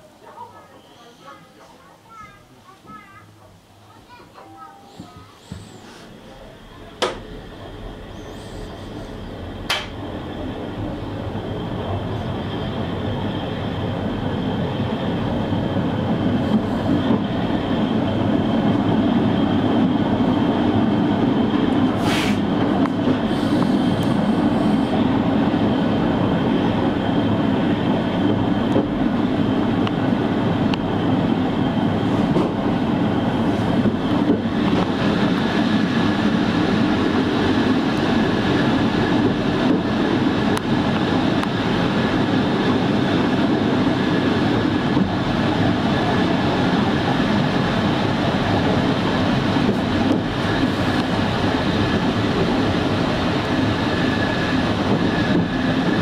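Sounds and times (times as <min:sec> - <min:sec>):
train wheels rumbling on rail: 0:04.4 - 0:56.0.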